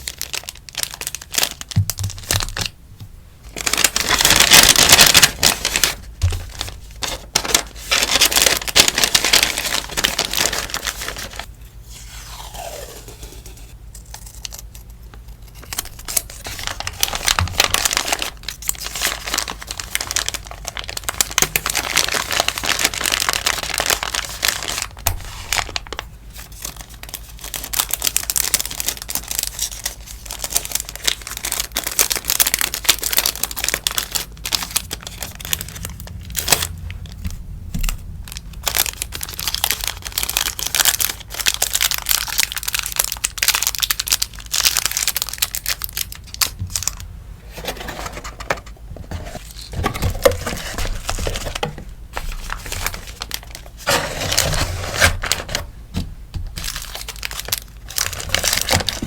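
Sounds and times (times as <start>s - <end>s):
wrappers crinkling and rustling: 0.0s - 2.8s, 3.5s - 11.5s, 15.4s - 55.7s, 56.4s - 59.0s.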